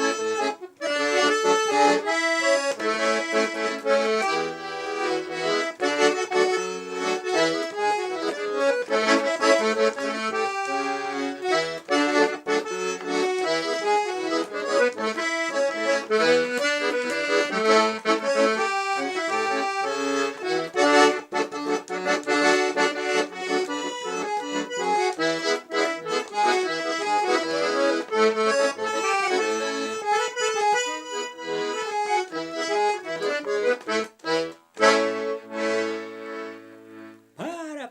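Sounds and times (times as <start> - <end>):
lively accordion music: 0.0 - 37.9.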